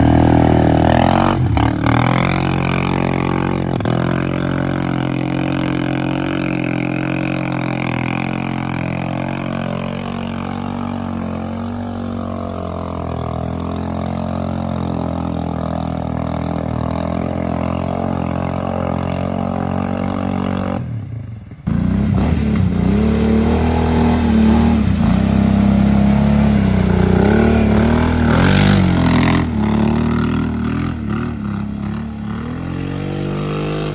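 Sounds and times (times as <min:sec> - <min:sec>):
atv engines running: 0:00.0 - 0:33.9
engine revving: 0:00.0 - 0:33.9.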